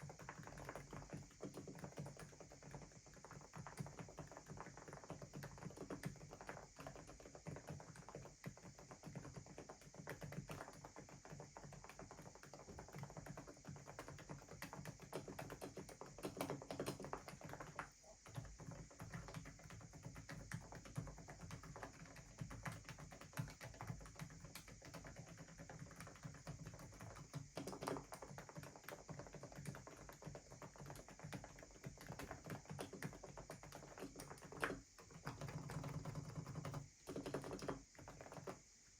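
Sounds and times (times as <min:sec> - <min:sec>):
typing on mechanical keyboard: 0:00.0 - 0:38.6.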